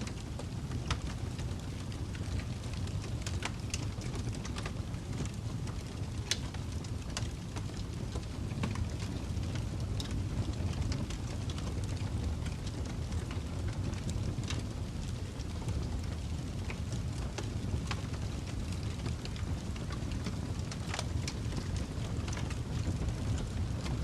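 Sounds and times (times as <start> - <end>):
fire crackling and popping: 0.0 - 24.0
wood fire rumbling: 0.0 - 24.0.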